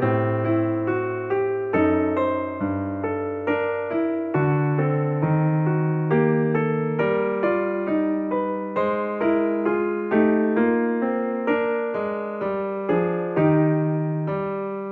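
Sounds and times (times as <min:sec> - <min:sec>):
slow electric piano melody: 0:00.0 - 0:14.9.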